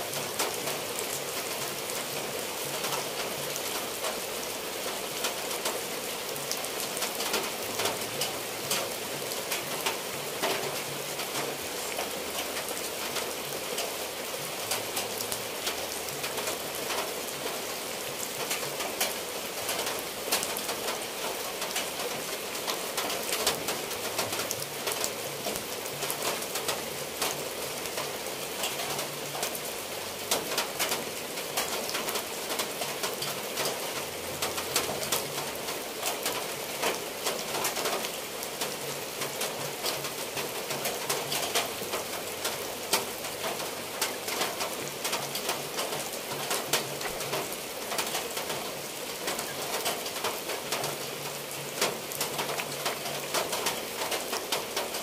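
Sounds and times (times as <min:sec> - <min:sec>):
rain on roof tiles and foliage: 0:00.0 - 0:55.0
water dripping off eaves: 0:00.0 - 0:55.0.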